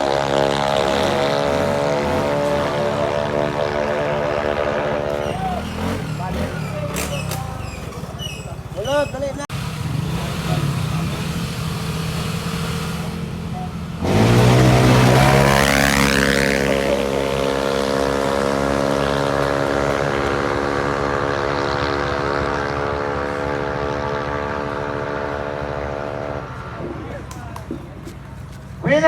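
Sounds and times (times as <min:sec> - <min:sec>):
scooter engines revving: 0:00.0 - 0:29.0.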